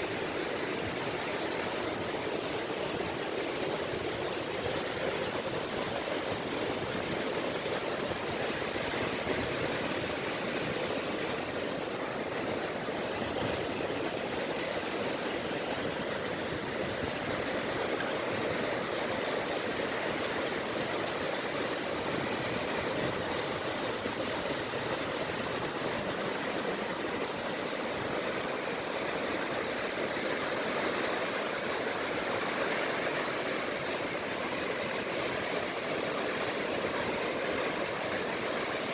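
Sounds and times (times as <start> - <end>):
small waves lapping on a beach: 0.0 - 38.9.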